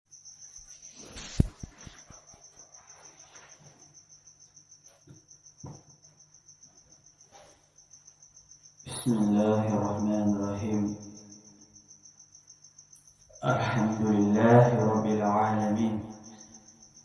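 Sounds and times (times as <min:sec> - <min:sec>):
cricket chirping: 0:00.1 - 0:17.0.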